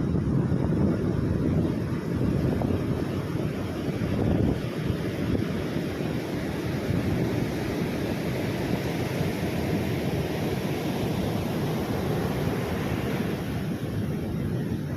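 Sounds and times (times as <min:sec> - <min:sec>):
ocean surf: 0:00.0 - 0:14.9
wind buffeting microphone: 0:00.0 - 0:14.9.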